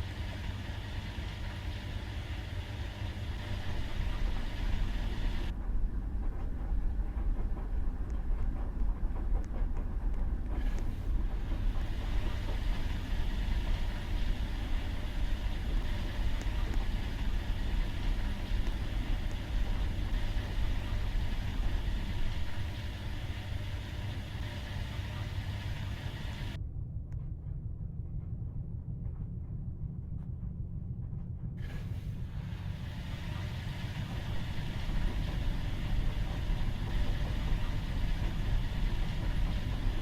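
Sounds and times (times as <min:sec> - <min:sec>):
washing machine running: 0:00.0 - 0:26.6, 0:31.6 - 0:40.0.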